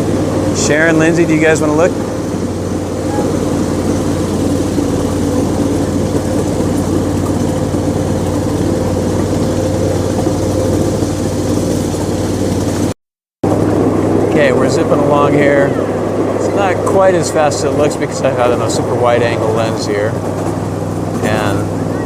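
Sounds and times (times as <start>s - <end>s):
miniature train engine drone: 0.0s - 12.9s, 13.5s - 22.0s
wheel and track rumble: 0.0s - 22.0s.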